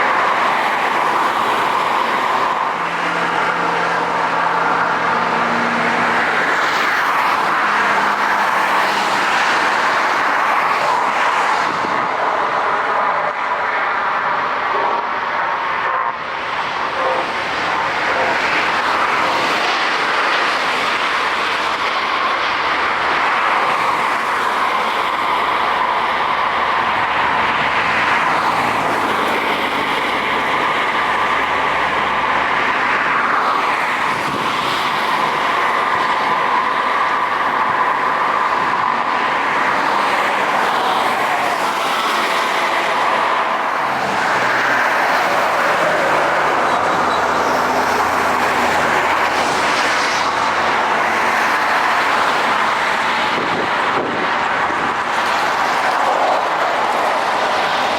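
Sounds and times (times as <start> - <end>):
jet engines rushing: 0.0 - 57.9.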